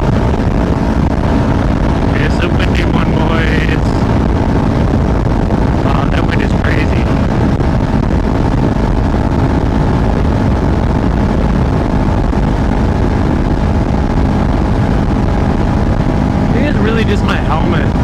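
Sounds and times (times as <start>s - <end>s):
motorcycle engine drone: 0.0s - 18.0s
wind rush: 0.0s - 18.0s.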